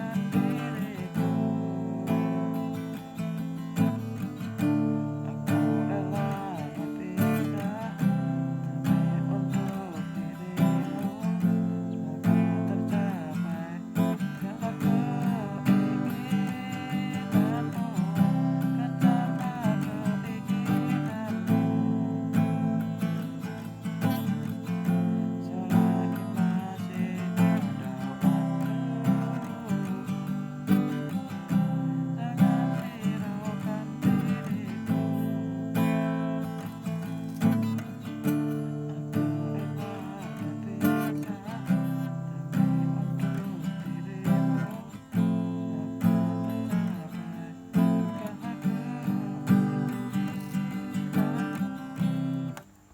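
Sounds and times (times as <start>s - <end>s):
acoustic guitar strumming chords: 0.0s - 52.9s.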